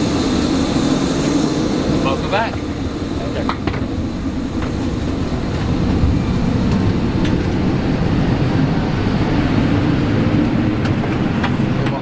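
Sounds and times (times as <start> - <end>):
low mechanical rumble of airliner: 0.0 - 12.0.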